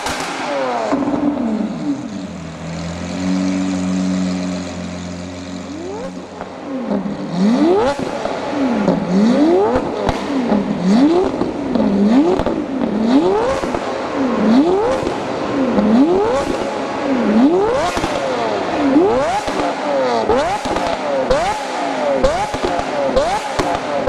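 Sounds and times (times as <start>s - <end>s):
sports car engine revving: 0.0s - 24.0s.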